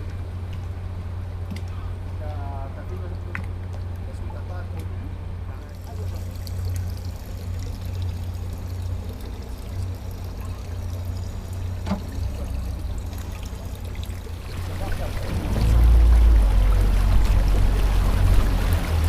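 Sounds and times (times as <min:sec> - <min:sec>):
motorboat engine rumble: 0:00.0 - 0:19.0
water splashing along hull: 0:00.0 - 0:19.0.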